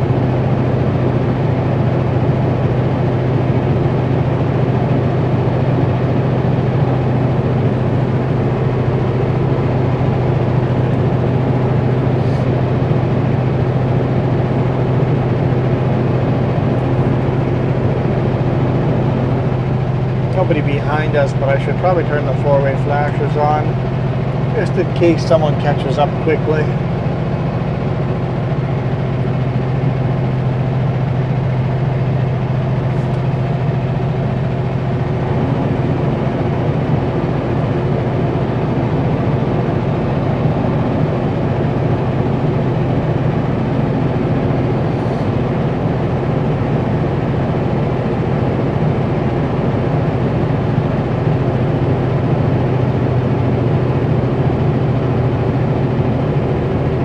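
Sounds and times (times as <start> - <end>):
truck diesel engine drone: 0.0 - 57.0.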